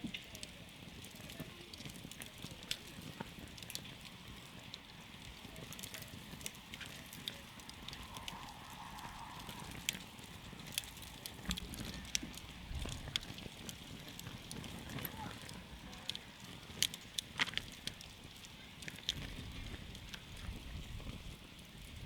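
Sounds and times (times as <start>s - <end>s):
campfire crackling and popping: 0.0s - 22.0s
flames rumbling: 0.0s - 22.0s.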